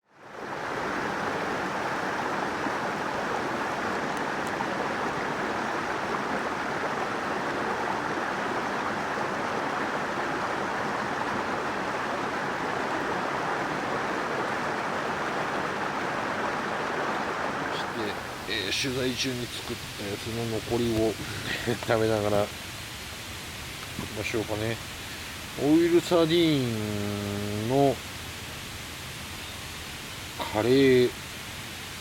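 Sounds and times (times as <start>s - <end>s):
rain falling on a tarp: 0.1s - 29.0s, 30.0s - 32.0s.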